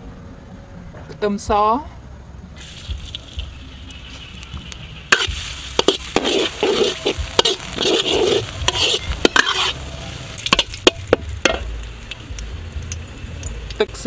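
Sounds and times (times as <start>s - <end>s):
aromatics sizzling in hot oil: 2.6s - 14.0s.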